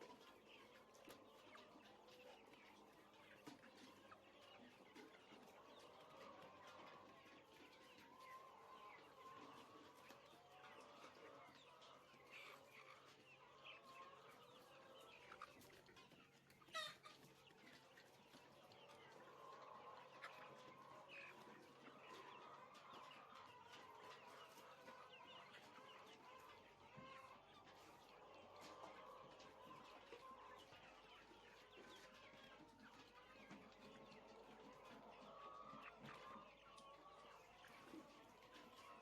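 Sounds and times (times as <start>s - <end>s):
chickens clucking and cheeping: 0.0s - 39.0s.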